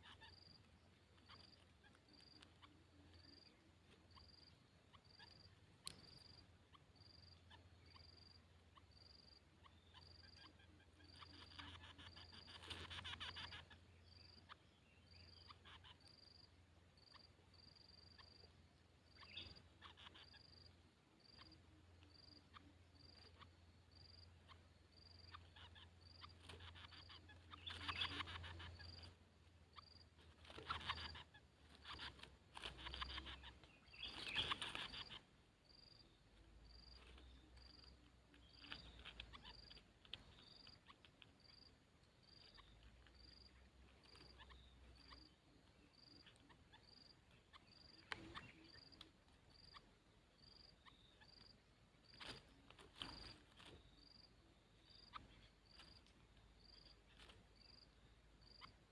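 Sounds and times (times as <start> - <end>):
faint high chirp: 0.0 - 58.9.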